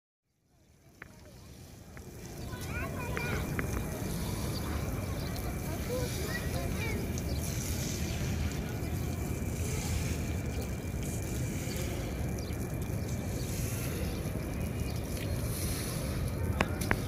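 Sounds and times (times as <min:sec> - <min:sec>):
water spraying from hose: 0:00.5 - 0:17.0.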